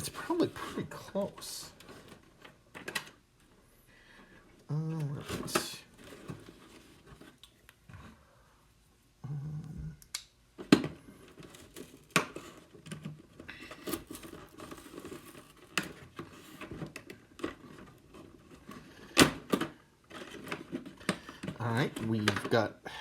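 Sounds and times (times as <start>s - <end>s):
plastic and cardboard rustling: 0.0s - 3.6s, 4.2s - 8.3s, 10.5s - 22.8s.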